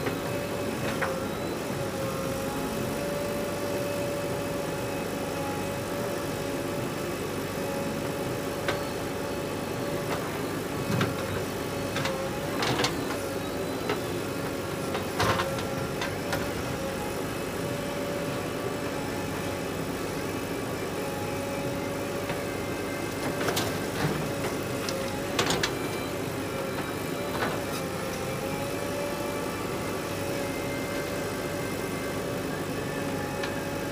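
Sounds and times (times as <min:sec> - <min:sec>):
diesel engines running: 0:00.0 - 0:33.9.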